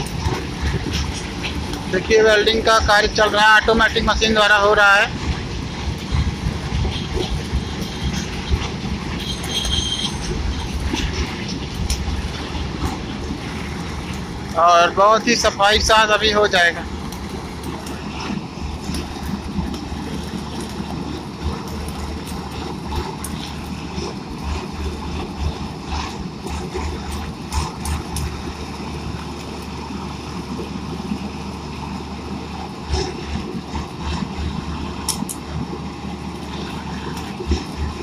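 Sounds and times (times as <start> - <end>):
welding head crackling: 0.0 - 31.2, 31.8 - 38.0
generator running: 0.0 - 38.0.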